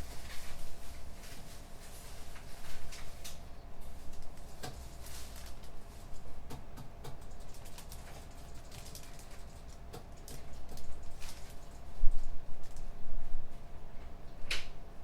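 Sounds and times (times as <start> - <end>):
faint room equipment hum: 0.0 - 15.0.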